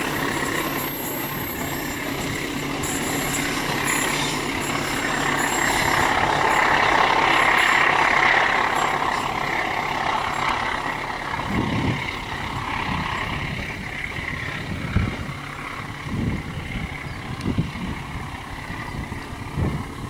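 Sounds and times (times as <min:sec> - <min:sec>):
freight train wheels on rails: 0:00.0 - 0:20.0
wind buffeting microphone: 0:00.0 - 0:20.0.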